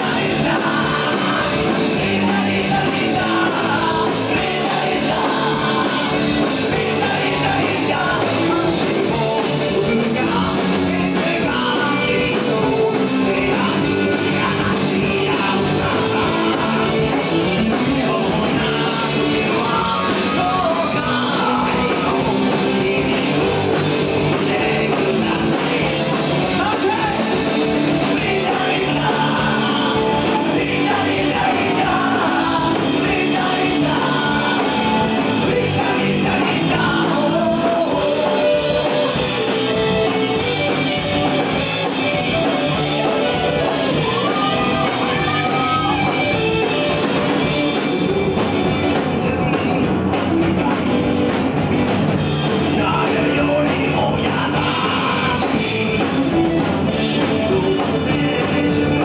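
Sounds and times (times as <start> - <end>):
man singing: 0.0 - 51.4, 52.3 - 59.0
distorted electric guitars: 0.0 - 59.0
drum kit: 0.0 - 59.0.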